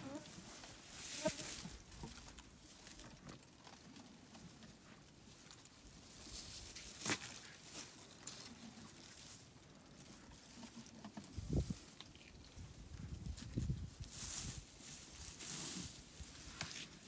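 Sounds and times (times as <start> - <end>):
faint rustling and crackling: 0.0 - 17.0.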